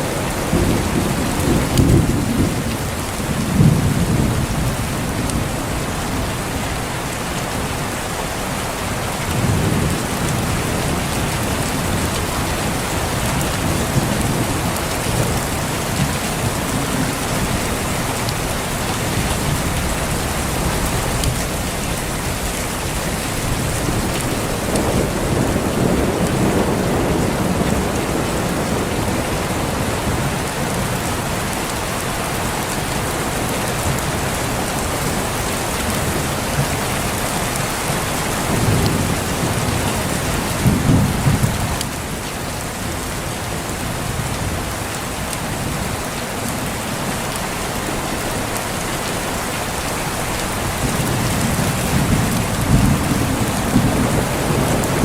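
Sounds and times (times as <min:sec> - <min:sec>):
thunder rumbling: 0:00.0 - 0:07.8, 0:08.9 - 0:45.9, 0:50.2 - 0:55.0
heavy rain falling: 0:00.0 - 0:55.0.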